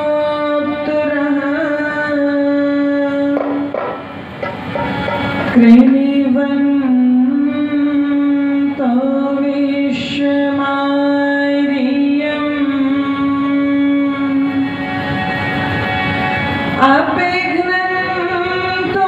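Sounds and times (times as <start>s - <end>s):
woman singing devotional song: 0.0s - 4.0s, 5.5s - 14.8s, 16.8s - 19.0s
harmonium: 0.0s - 19.0s.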